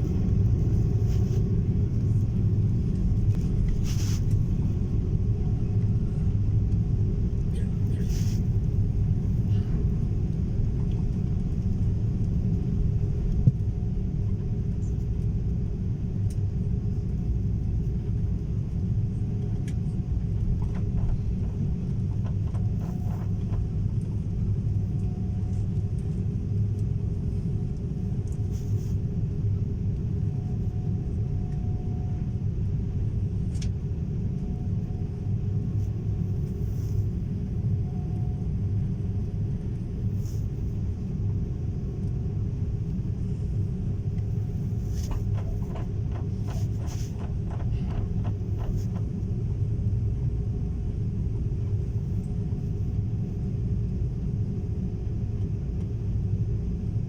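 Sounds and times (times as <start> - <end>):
airliner engines rumbling: 0.0 - 57.0.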